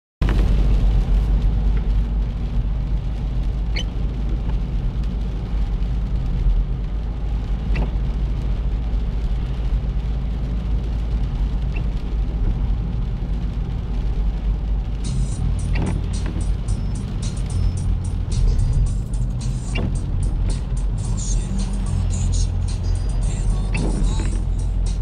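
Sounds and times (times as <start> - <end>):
car road rumble inside cabin: 0.2 - 25.0.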